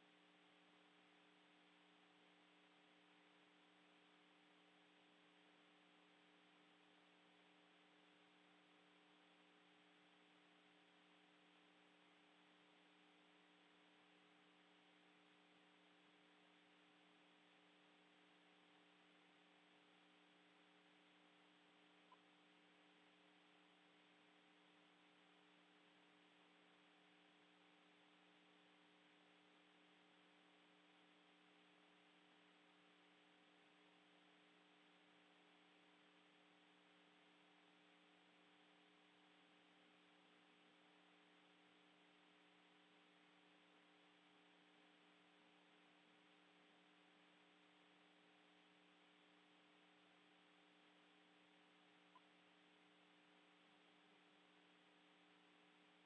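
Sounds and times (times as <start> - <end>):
faint electrical hum and hiss: 0.0 - 56.0.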